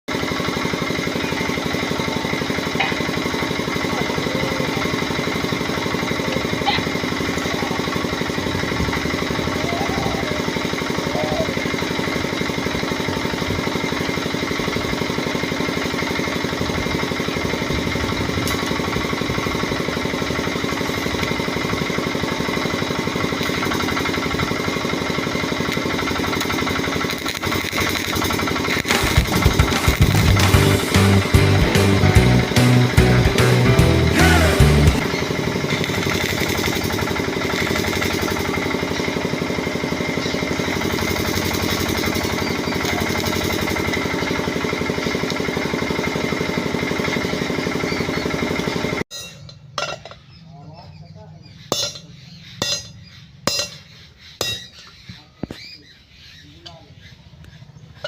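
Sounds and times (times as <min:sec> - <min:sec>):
machine running with fast pulse: 0:00.1 - 0:49.0.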